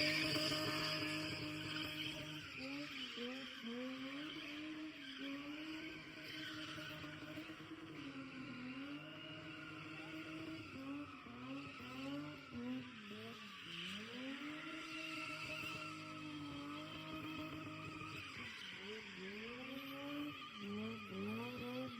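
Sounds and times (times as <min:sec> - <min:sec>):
racing car engine revving: 0:00.0 - 0:21.9
tyre squeal: 0:00.0 - 0:21.9.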